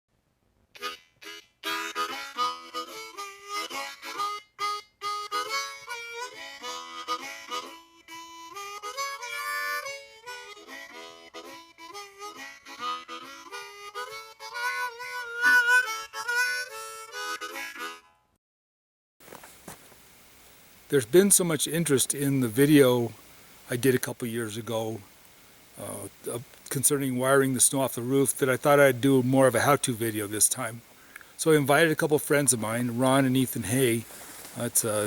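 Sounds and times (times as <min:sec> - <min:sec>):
harmonica playing lively tune: 0:00.8 - 0:18.3, 0:21.0 - 0:23.1, 0:25.8 - 0:35.0.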